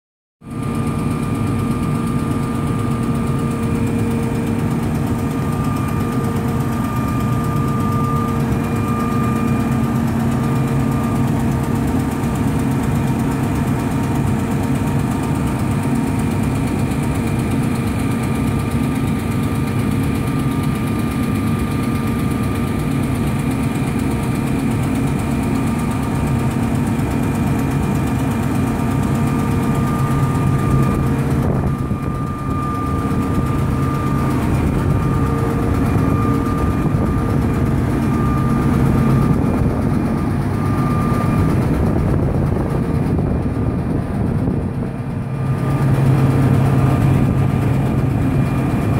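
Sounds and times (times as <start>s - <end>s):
diesel engine running: 0.9s - 15.2s, 17.4s - 48.9s.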